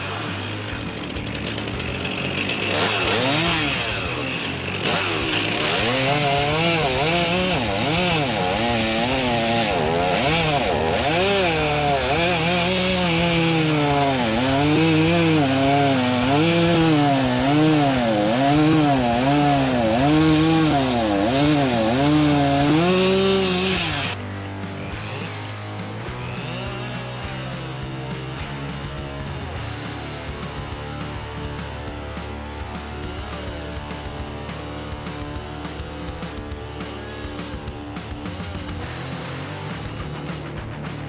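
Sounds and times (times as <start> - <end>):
chainsaw engine revving: 0.0 - 41.0.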